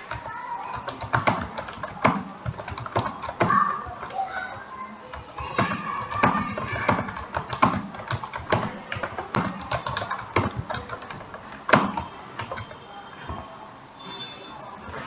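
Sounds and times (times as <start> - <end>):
fast keyboard typing: 0.0 - 13.7.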